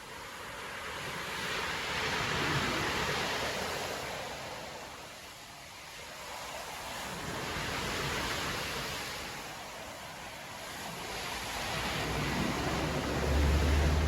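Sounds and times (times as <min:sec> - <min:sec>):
surf breaking on a beach: 0:00.0 - 0:14.0.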